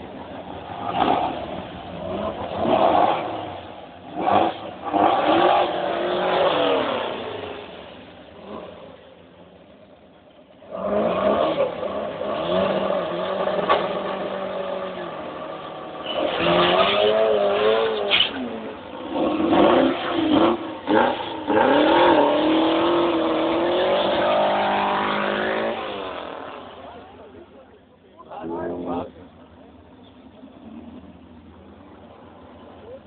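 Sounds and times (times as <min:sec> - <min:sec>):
modified car engine revving: 0:00.0 - 0:09.4, 0:10.6 - 0:27.6.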